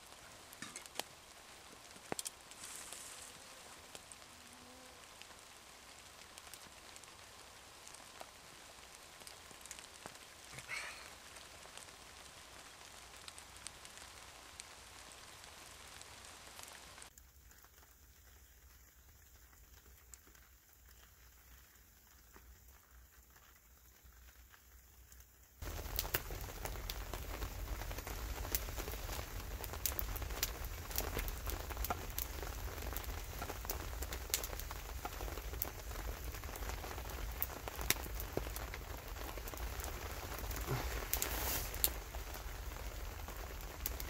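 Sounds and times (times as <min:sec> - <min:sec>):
light rain pattering: 0:00.0 - 0:44.0.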